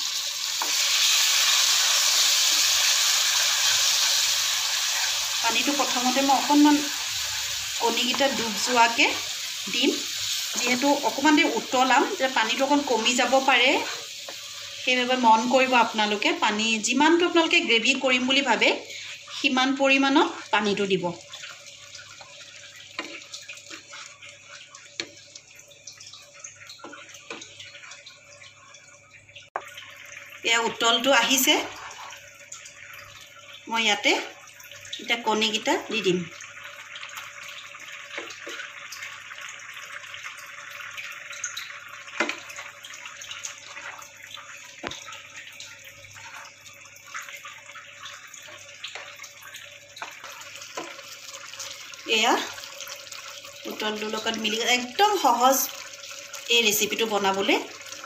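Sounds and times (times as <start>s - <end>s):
water splashing into frying pan: 0.0s - 58.0s.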